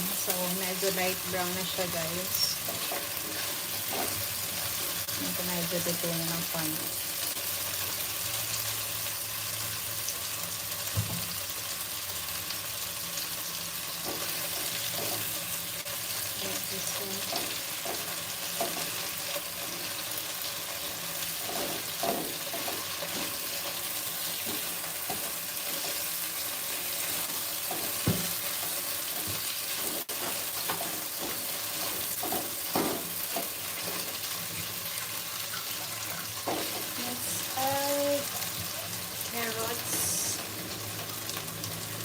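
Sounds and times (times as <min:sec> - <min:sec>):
chicken sizzling in oil: 0:00.0 - 0:42.0.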